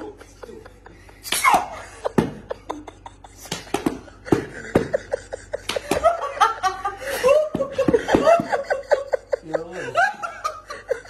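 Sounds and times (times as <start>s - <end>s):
men laughing: 0.0s - 11.0s.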